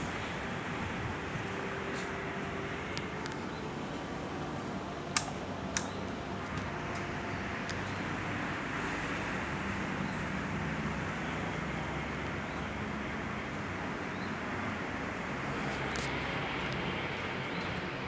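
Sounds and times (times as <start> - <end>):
ceiling fans rushing air: 0.0 - 18.0.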